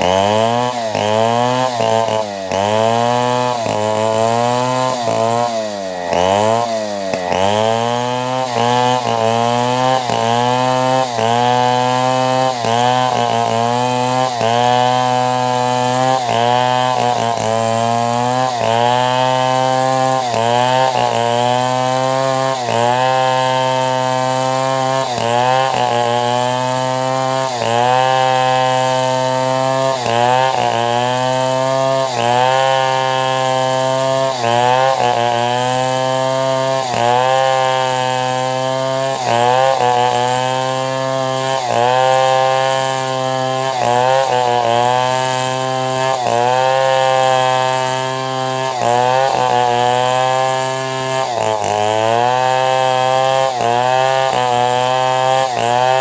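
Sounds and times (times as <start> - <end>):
chainsaw cutting timber: 0.0 - 56.0.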